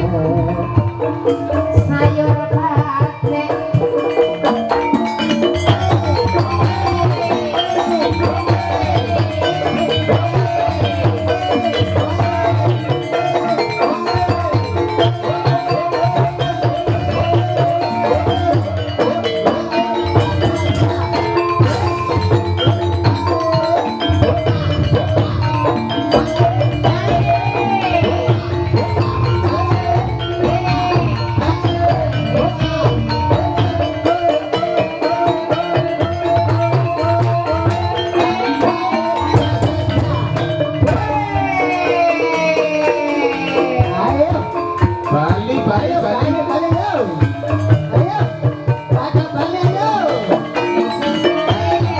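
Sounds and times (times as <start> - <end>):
gamelan keyed instruments melody: 0.0 - 51.9
metallophone notes: 0.0 - 51.9
steady drum pattern: 0.0 - 51.9.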